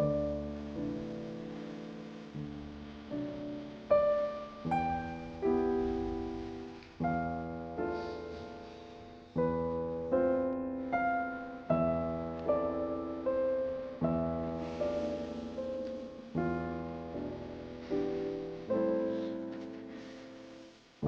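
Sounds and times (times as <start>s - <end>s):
gentle piano tune: 0.0s - 21.0s.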